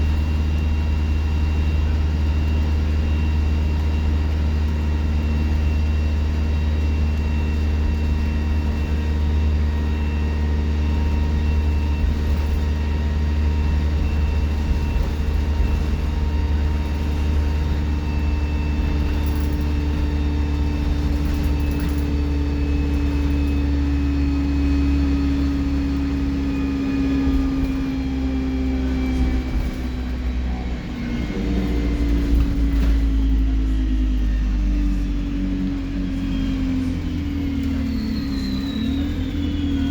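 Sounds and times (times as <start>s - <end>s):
diesel bus engine drone: 0.0s - 39.9s.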